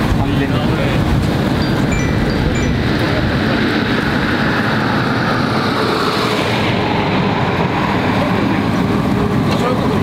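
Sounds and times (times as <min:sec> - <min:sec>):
jet engine rumble and whine: 0:00.0 - 0:10.0.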